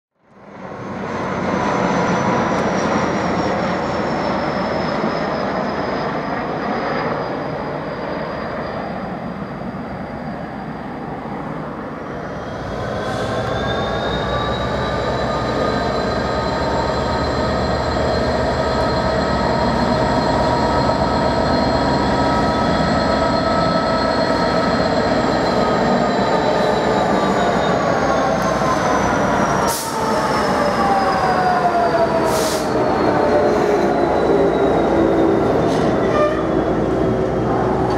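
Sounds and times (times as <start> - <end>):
diesel locomotive engine drone: 0.2 - 37.9
turboprop airliner passing overhead: 0.4 - 37.9.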